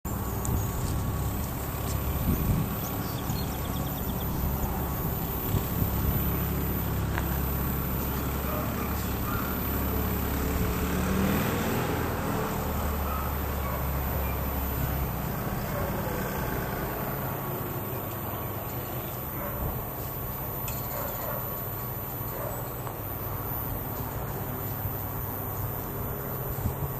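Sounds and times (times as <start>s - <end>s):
outdoor traffic noise: 0.0s - 26.9s
vehicle engine rumbling: 0.0s - 26.9s.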